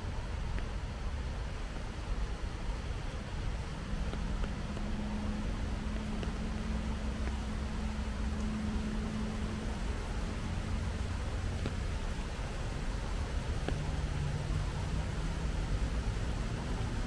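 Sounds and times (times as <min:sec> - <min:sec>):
faint steady hum: 0:00.0 - 0:17.0
rain hiss: 0:00.0 - 0:17.0.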